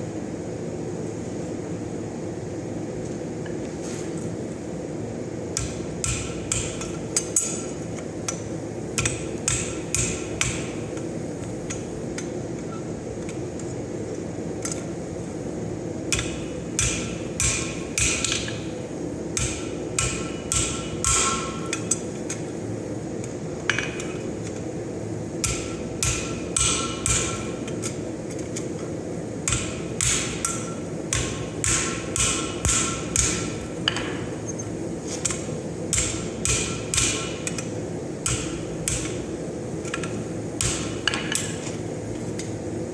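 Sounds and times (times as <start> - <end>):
low background hum: 0.0 - 42.9.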